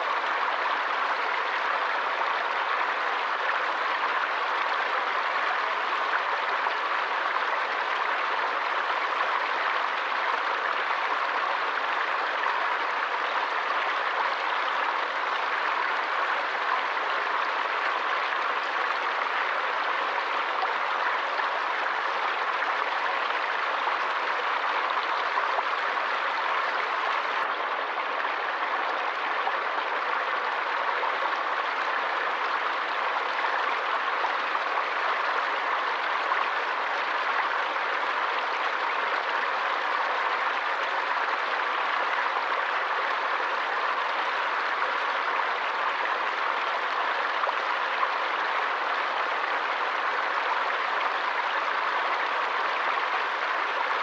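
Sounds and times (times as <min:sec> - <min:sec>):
stream flowing and splashing: 0:00.0 - 0:54.0.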